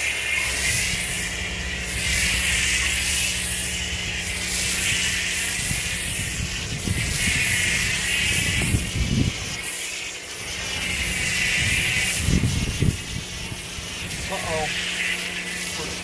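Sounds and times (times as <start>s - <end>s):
hiss of foam spray: 0.0s - 16.0s
pressure washer humming: 0.0s - 16.0s.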